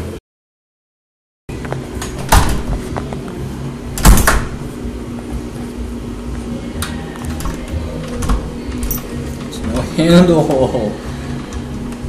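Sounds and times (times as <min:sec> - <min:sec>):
steady low hum: 0:01.5 - 0:12.0.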